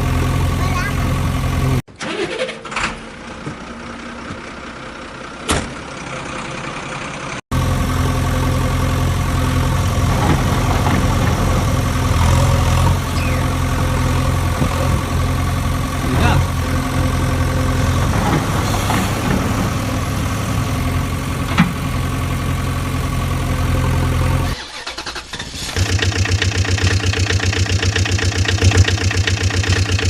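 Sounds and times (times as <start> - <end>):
engine idling loudly: 0.0 - 1.8, 3.1 - 24.8, 25.6 - 30.0.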